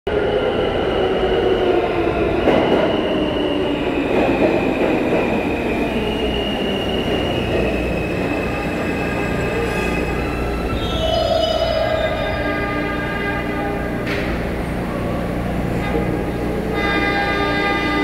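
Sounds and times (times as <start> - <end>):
subway train rumble: 0.1 - 18.0.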